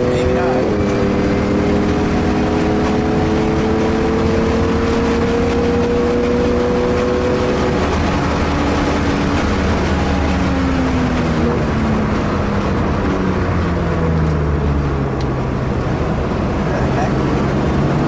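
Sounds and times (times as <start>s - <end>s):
car engine accelerating: 0.0s - 18.0s
road and wind noise: 0.0s - 18.0s.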